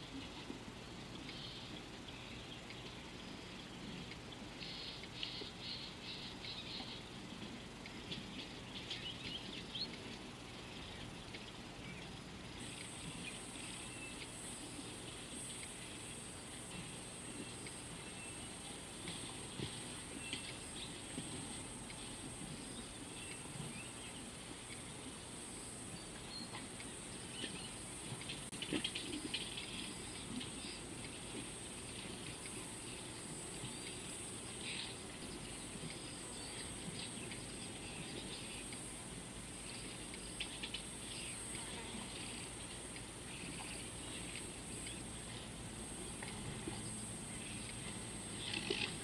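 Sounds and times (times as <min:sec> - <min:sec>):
crackles: 0:00.0 - 0:49.0.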